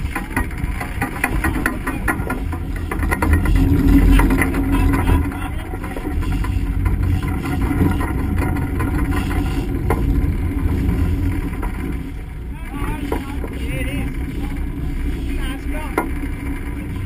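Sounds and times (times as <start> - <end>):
boat engines running hard: 0.0 - 17.0
water splashing against hull: 0.0 - 17.0.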